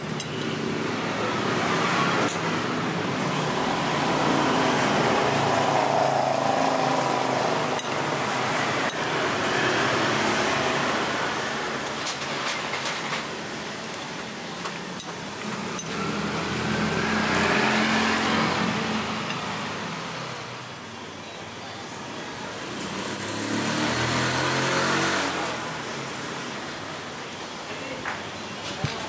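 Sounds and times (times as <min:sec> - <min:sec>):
vehicles passing close by: 0:00.0 - 0:21.2, 0:21.8 - 0:29.0.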